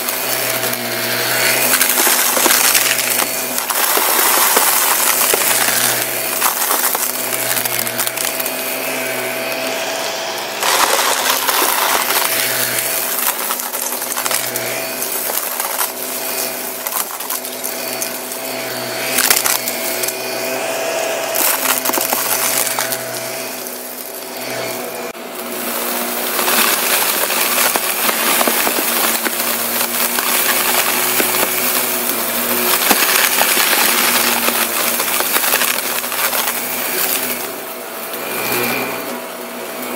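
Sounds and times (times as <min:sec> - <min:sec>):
debris crackling and rattling: 0:00.0 - 0:09.8, 0:10.6 - 0:20.5, 0:21.2 - 0:39.1
vacuum cleaner humming: 0:00.0 - 0:39.9.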